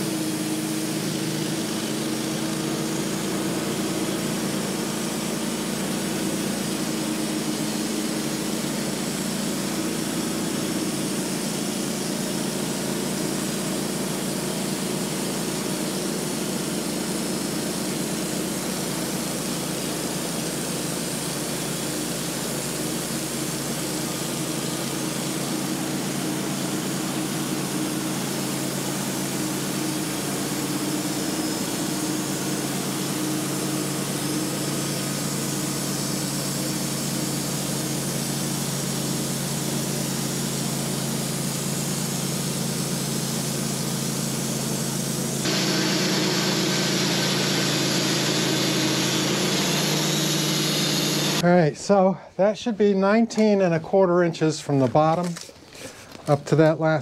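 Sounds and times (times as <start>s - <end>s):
sawmill sawing log: 0.0s - 51.4s.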